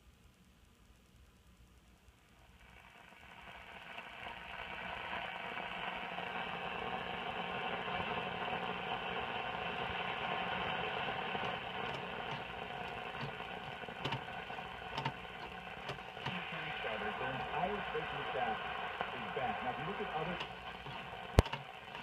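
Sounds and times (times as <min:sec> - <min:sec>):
faint hum: 0:00.0 - 0:22.0
radio static hiss: 0:00.0 - 0:22.0.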